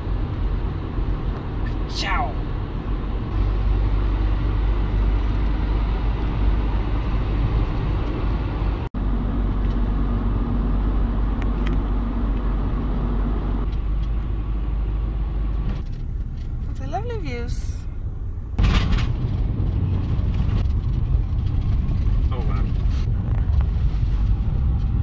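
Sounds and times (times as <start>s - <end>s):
engine and road noise in a cab: 0.0s - 25.0s.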